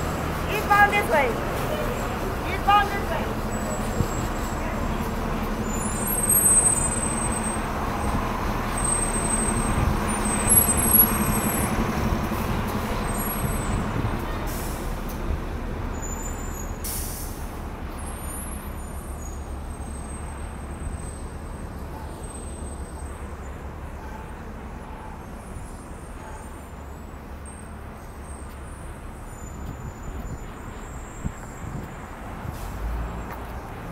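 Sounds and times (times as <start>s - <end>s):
bus engine humming: 0.0s - 33.9s
street traffic: 0.0s - 33.9s.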